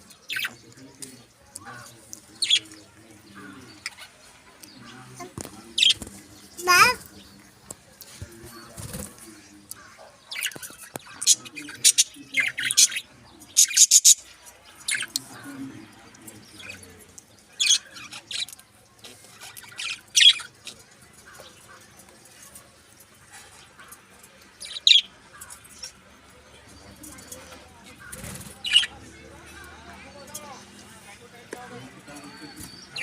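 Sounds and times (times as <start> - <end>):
birds chirping and squawking: 0.0 - 33.0.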